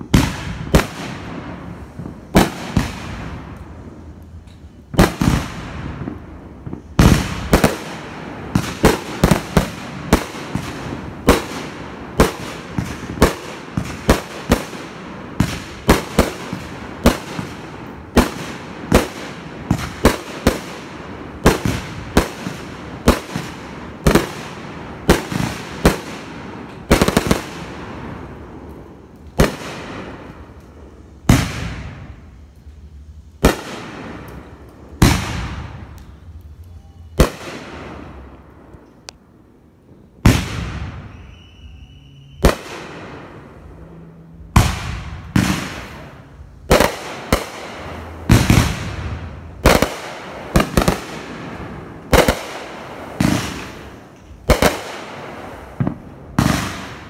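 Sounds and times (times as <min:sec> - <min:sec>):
fireworks bursting: 0:00.0 - 0:57.0
fireworks crackling: 0:00.0 - 0:57.0.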